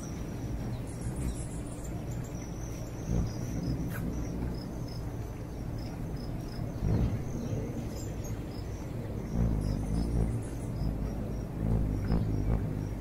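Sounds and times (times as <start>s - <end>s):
low rumbling background: 0.0s - 13.0s.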